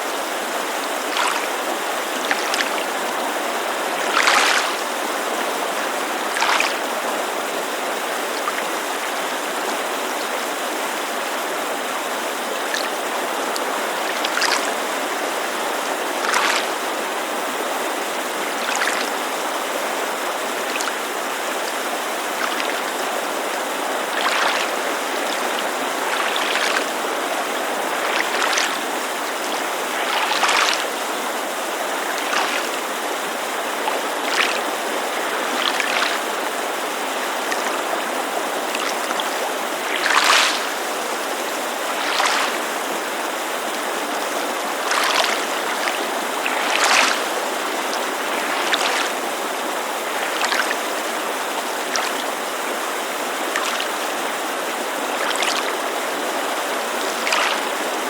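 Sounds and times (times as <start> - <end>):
creek rushing: 0.0 - 58.0
small waves lapping: 0.0 - 58.0.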